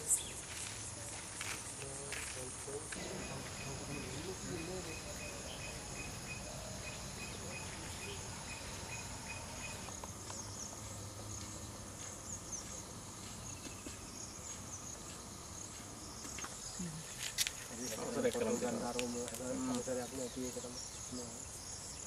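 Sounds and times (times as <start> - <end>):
insects chirring: 0.0 - 22.0
repeating insect chirp: 0.0 - 22.0.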